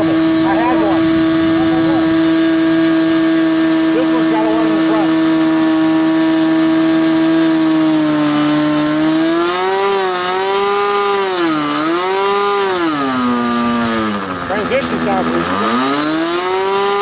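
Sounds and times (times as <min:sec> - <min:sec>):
model airplane engine running: 0:00.0 - 0:17.0.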